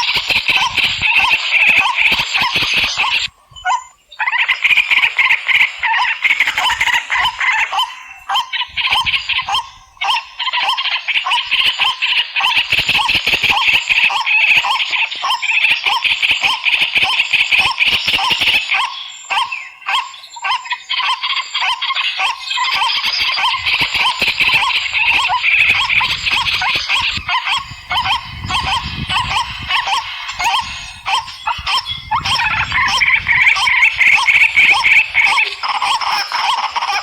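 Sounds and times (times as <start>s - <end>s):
fast trilling animal calls: 0.0s - 37.0s
low repeated animal call: 0.0s - 37.0s.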